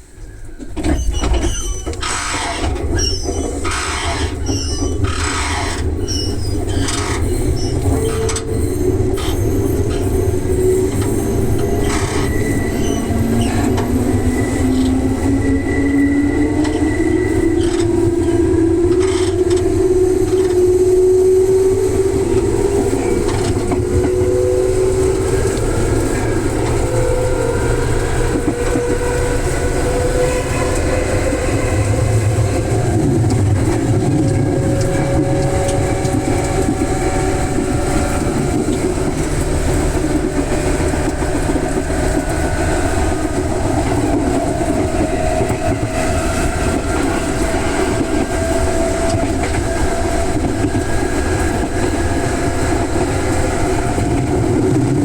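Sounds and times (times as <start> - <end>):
train traction motors whining: 0.0 - 55.0
wheels rumbling on rails: 0.0 - 55.0.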